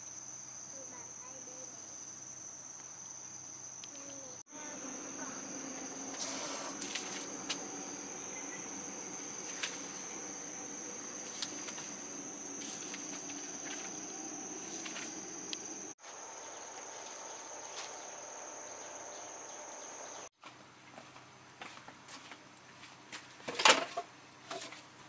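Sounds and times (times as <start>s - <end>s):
high-pitched insect chorus: 0.0s - 20.3s.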